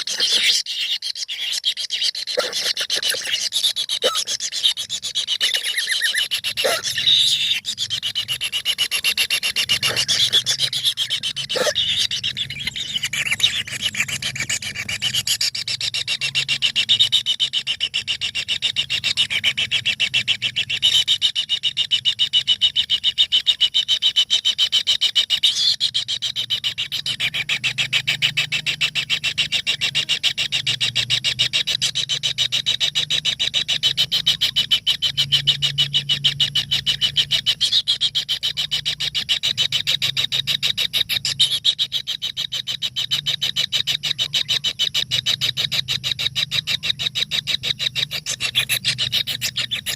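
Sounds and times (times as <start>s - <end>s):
bird nestlings begging: 0.0s - 49.9s.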